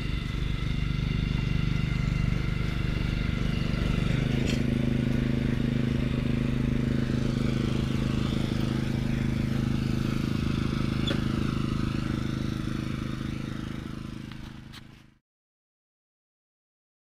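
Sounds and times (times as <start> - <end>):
small engine running: 0.0 - 15.2.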